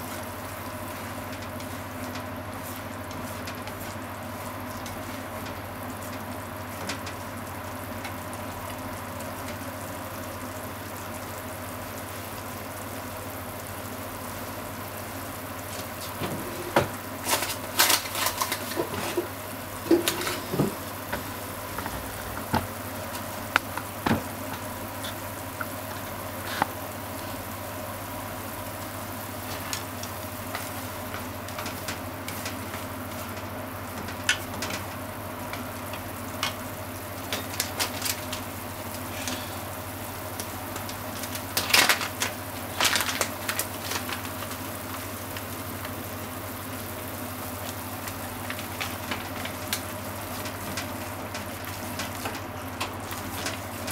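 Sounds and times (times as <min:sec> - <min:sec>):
meat sizzling in a frying pan: 0:00.0 - 0:53.9.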